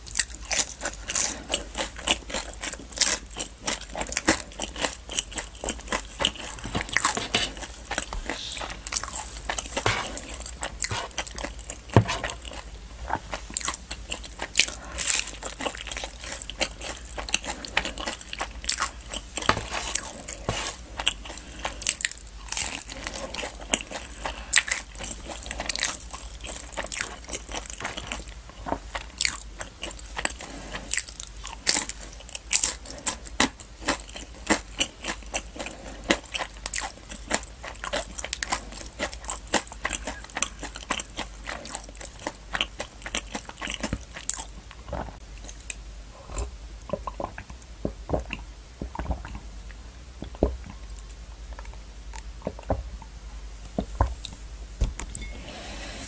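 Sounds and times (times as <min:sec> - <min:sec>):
crunchy chewing: 0:00.0 - 0:49.5.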